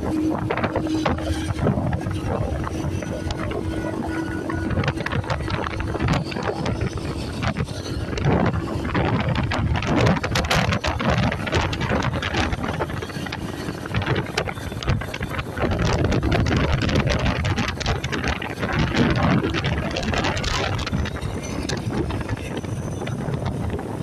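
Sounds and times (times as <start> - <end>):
road and traffic noise: 0.0 - 24.0
wind buffeting microphone: 0.0 - 24.0.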